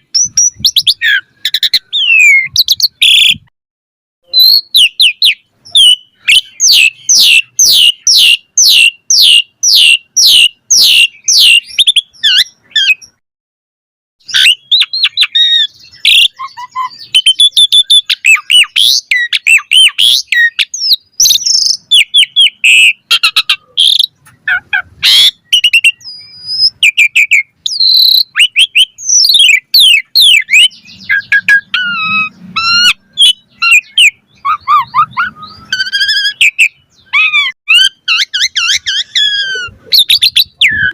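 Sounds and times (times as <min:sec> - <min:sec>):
starling singing: 0:00.0 - 0:03.5, 0:04.2 - 0:13.2, 0:14.2 - 0:40.9.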